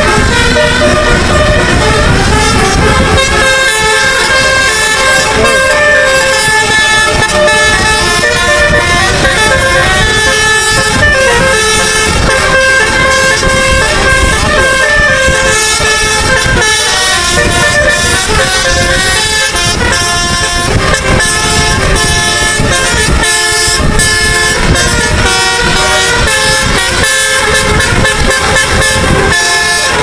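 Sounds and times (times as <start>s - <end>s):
musical air horn playing a tune: 0.0s - 30.0s.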